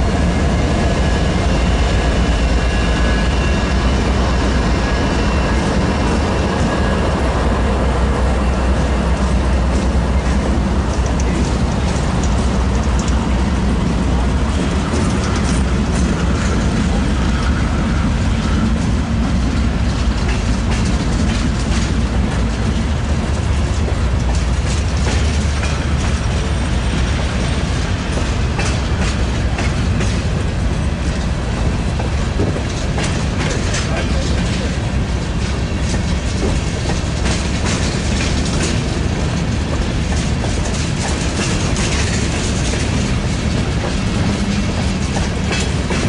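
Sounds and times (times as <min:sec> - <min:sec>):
diesel locomotive rumbling: 0:00.0 - 0:46.0
train wheels clacking on rails: 0:00.0 - 0:46.0.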